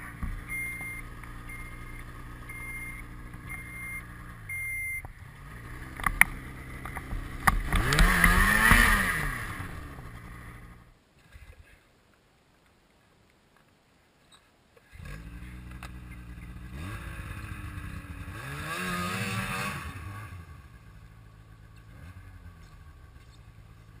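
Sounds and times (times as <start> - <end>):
snowmobile engine revving: 0.0 - 10.9, 14.9 - 24.0.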